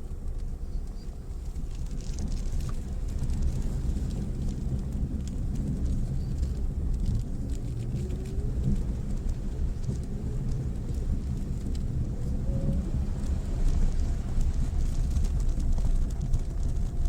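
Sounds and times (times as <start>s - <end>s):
low engine drone with whine: 0.0s - 17.0s
stones clicking under tyres: 0.0s - 17.0s.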